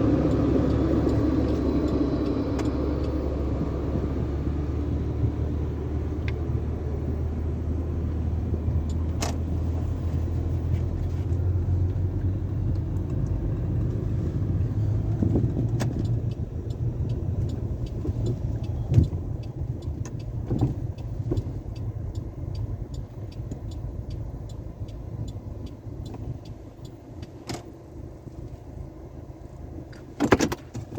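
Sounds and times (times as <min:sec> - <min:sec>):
car engine rumbling: 0:00.0 - 0:30.9.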